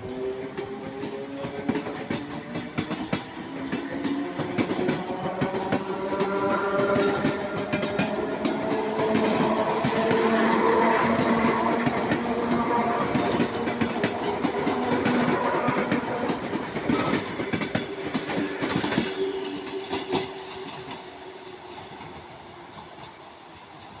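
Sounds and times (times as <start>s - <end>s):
steady train whine: 0.0s - 24.0s
train wheels clickety-clack: 0.0s - 24.0s.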